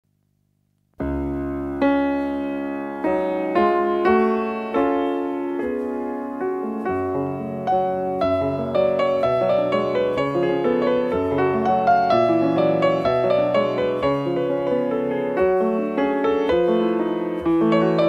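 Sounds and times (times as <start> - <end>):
slow piano melody: 1.0 - 18.0.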